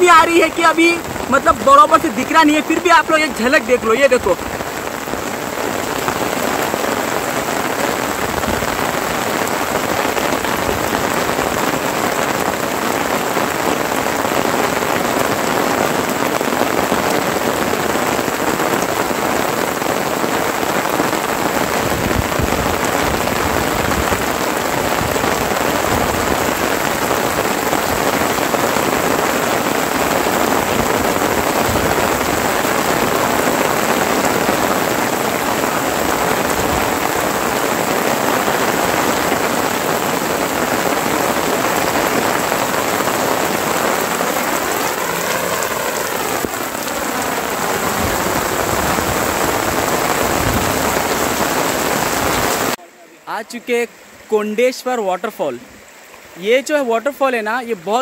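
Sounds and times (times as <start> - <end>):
heavy rain on ground and roofs: 0.0 - 58.0.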